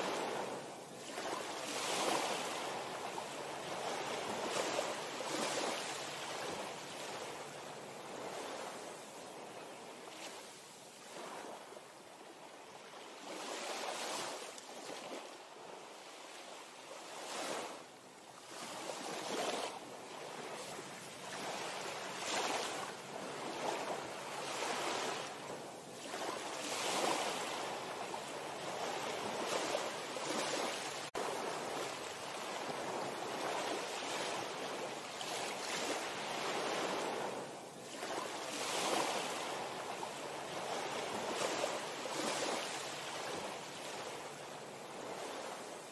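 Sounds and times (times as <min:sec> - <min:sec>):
small waves lapping: 0:00.0 - 0:45.9.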